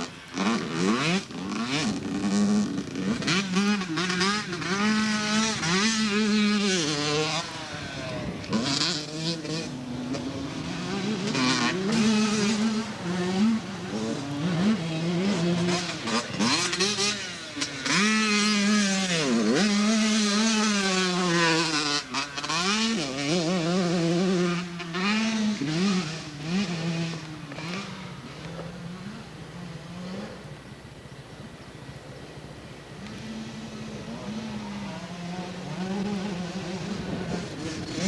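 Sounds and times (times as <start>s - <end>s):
dirt bike engine revving: 0.0s - 30.6s, 32.8s - 38.0s.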